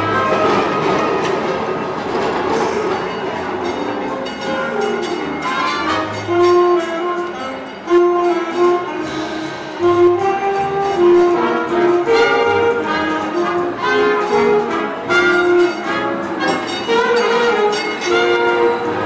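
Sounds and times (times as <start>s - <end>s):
melody of held notes: 0.0s - 19.0s.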